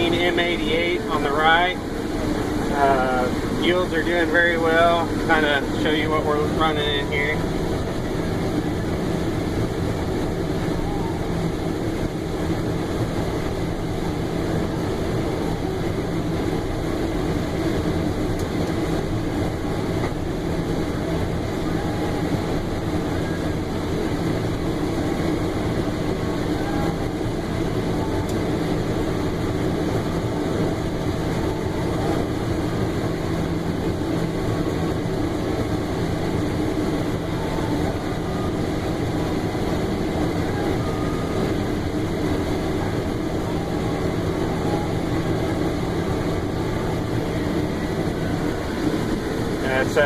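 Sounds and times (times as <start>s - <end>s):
combine harvester running: 0.0s - 50.0s.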